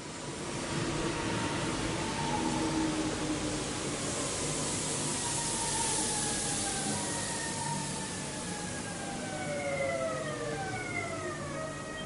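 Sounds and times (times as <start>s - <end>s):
train passing rumble: 0.0s - 12.0s.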